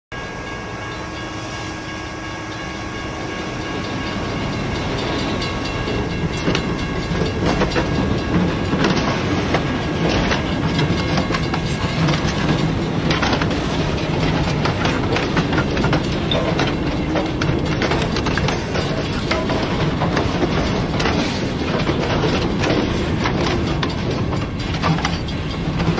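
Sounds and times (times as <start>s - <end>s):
diesel locomotive engine drone: 0.1s - 25.9s
train scraping a truck: 1.6s - 25.9s
train wheels clattering: 3.6s - 25.9s.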